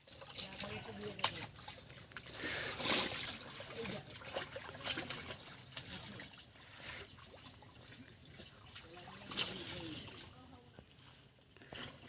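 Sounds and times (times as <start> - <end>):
water splashing: 0.0 - 10.7.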